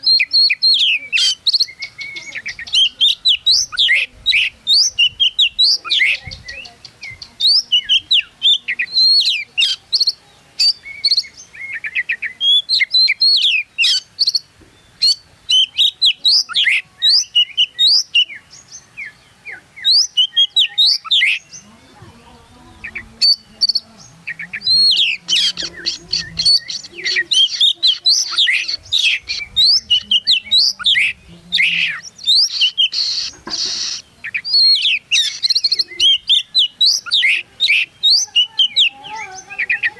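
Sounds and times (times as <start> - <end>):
songbird whistling and chattering: 0.0 - 39.9.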